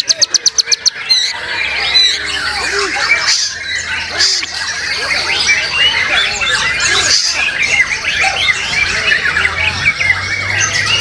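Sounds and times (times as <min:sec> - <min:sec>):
many birds whistling and chattering: 0:00.0 - 0:11.0.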